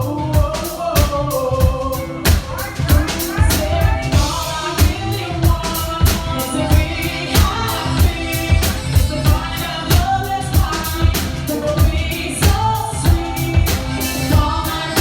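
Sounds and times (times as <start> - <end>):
drum kit beat: 0.0 - 15.0
live band playing: 0.0 - 15.0
woman singing: 0.0 - 15.0.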